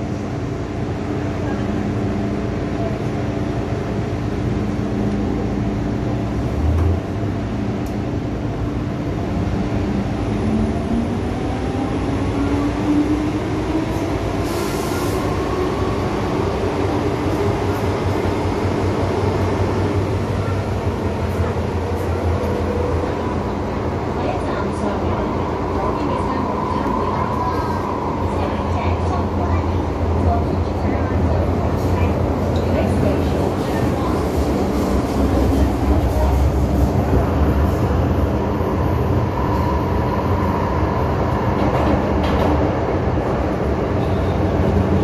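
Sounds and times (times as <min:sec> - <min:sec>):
electric train hum: 0:00.0 - 0:45.0.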